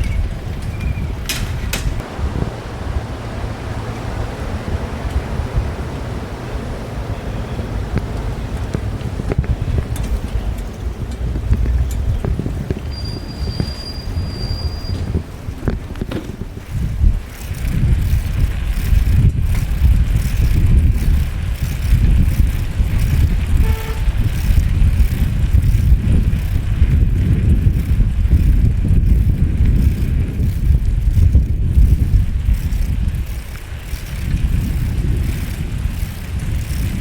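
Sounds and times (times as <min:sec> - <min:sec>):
road traffic rumble: 0:00.0 - 0:37.0
wind buffeting microphone: 0:00.0 - 0:37.0.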